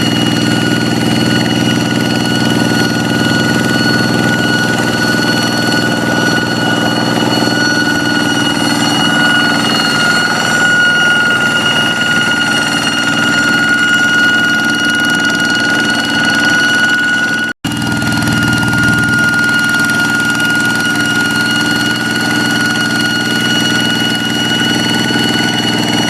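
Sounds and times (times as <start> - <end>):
diesel engine running: 0.0 - 26.0
high-pitched whine: 0.0 - 26.0.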